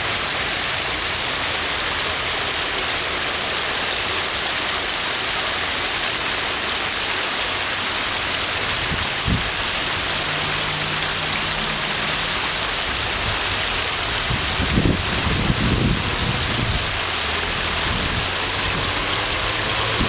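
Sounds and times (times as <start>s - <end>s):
creek water babbling over rocks: 0.0s - 20.0s.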